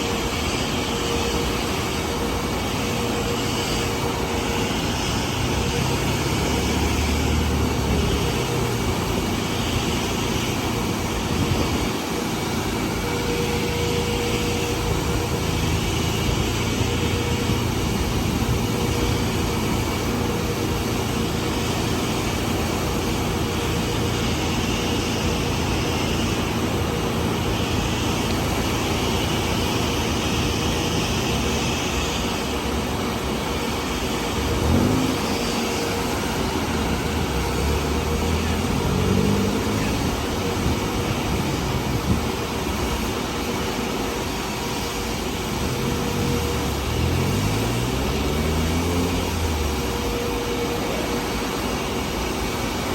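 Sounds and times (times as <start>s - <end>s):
car wash machinery rushing: 0.0s - 52.9s.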